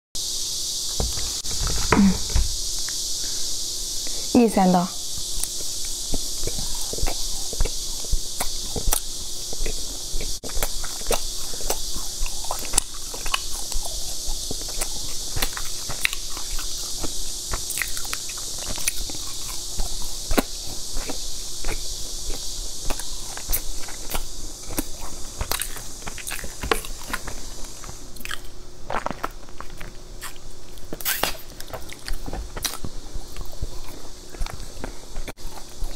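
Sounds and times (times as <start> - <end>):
high-pitched hiss: 0.2 - 35.9
chewing crunchy pastries: 5.2 - 35.9.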